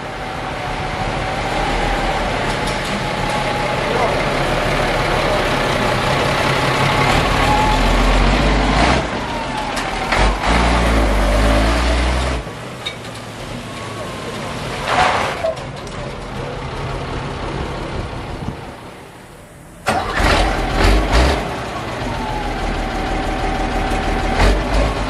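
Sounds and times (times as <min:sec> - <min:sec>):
fire truck diesel engine: 0:00.0 - 0:25.0.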